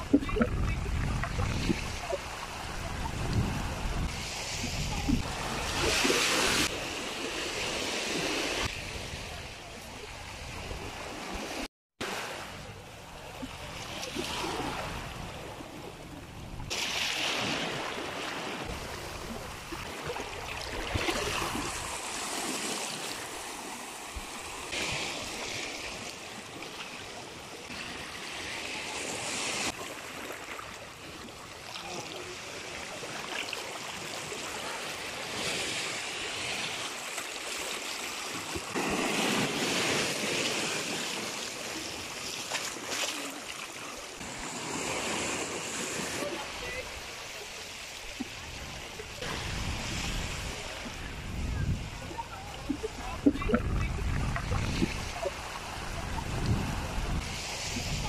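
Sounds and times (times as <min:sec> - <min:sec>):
sea waves washing over rocks: 0:10.9 - 0:58.0.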